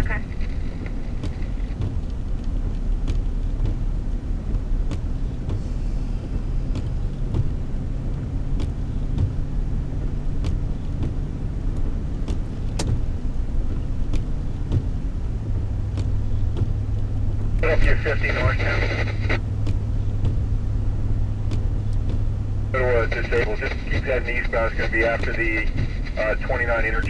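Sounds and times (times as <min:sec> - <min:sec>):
car engine and road drone: 0:00.0 - 0:27.0.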